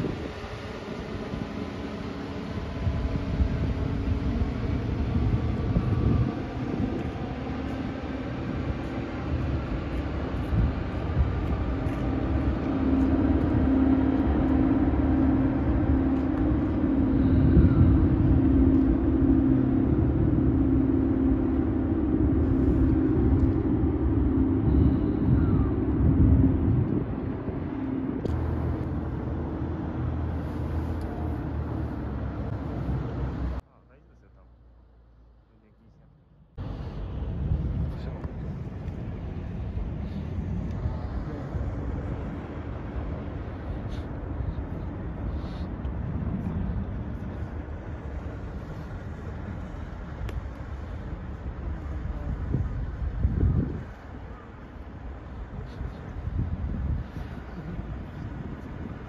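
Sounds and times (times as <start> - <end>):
wind rumble on microphone: 0.0 - 33.6, 36.4 - 59.0
boat engine droning: 0.0 - 59.0.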